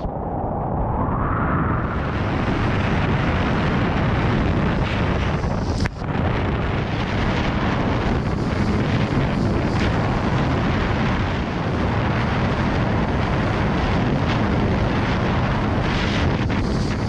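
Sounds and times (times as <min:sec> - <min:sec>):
wind noise on microphone: 0:00.0 - 0:17.0
jet ski running at speed: 0:02.0 - 0:17.0.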